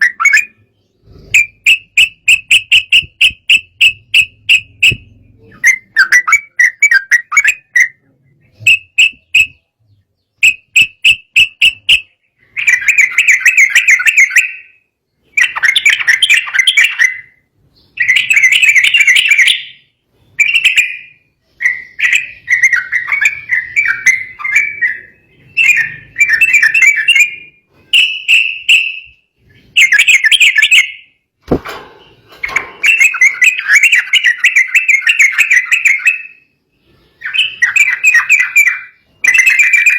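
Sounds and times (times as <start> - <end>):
bird rapid chirping: 0.0 - 39.9.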